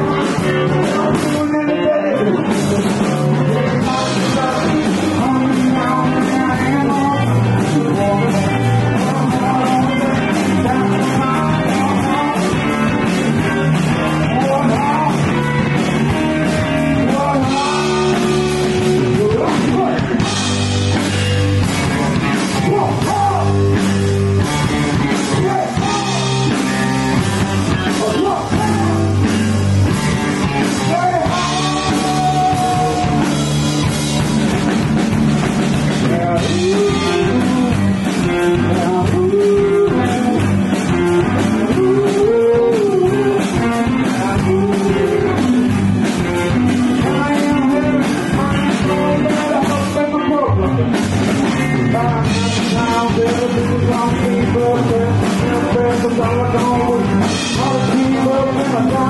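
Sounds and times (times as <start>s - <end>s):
person singing: 0.0s - 21.1s, 21.8s - 34.2s, 35.9s - 59.0s
live rock band playing: 0.0s - 59.0s.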